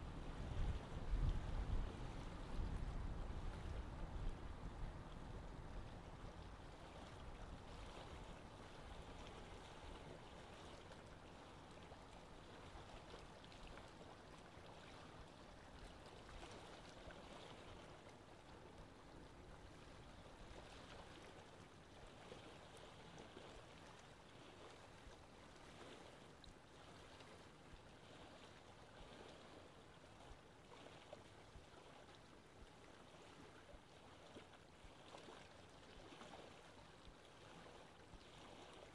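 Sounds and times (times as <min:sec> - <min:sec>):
water trickling and splashing: 0:00.3 - 0:38.9.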